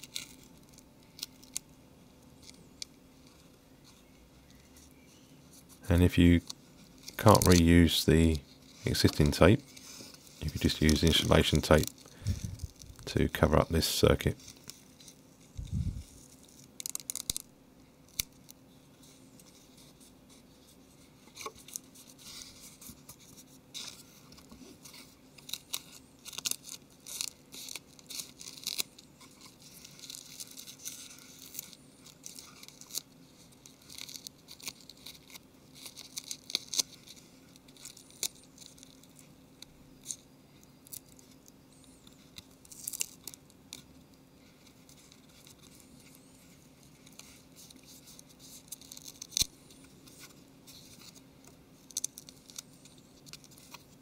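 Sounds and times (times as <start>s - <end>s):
metallic tape crinkling: 0.0s - 1.8s, 2.4s - 54.0s.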